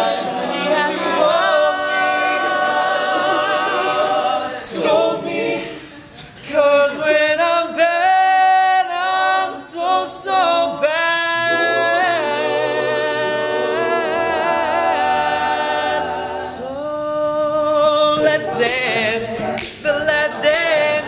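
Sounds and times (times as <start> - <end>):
backing vocal harmonies: 0.0 - 21.0.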